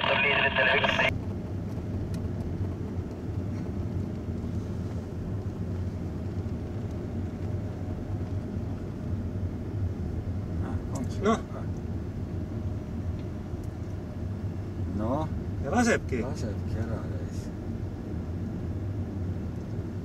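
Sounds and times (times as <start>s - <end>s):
road noise: 0.0s - 20.0s
vehicle engine rumble: 0.0s - 20.0s.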